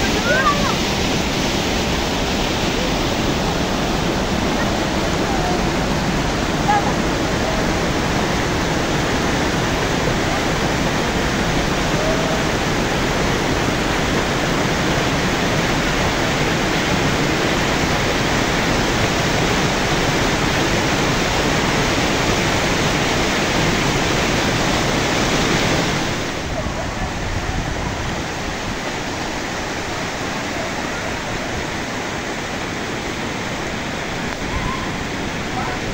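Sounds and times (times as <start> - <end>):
waterfall and stream rushing: 0.0 - 35.9.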